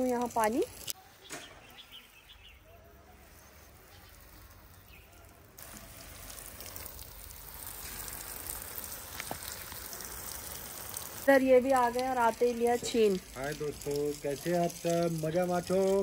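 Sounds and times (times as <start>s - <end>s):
water spraying onto garden bed: 0.0s - 16.0s.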